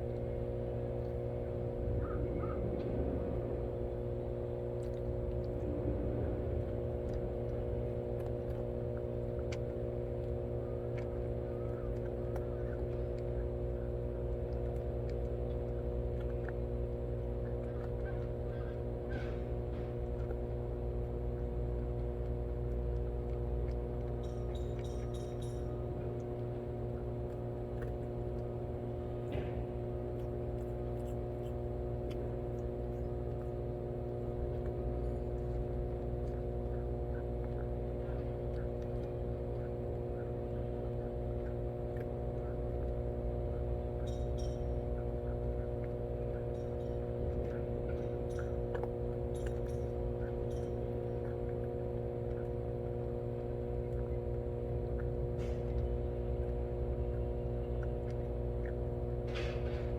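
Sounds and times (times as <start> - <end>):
cats eating from bowls: 0.0 - 59.9
steady hum of held tones: 0.0 - 59.9.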